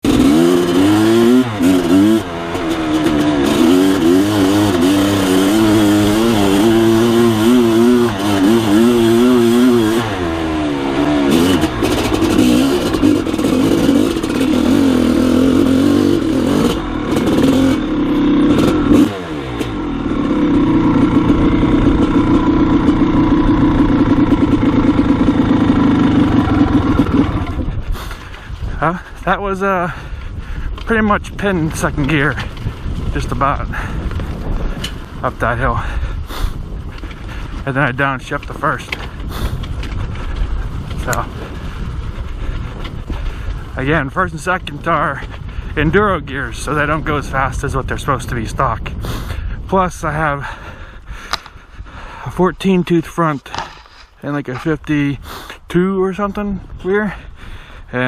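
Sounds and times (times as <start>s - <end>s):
dirt bike engine revving: 0.0s - 57.2s.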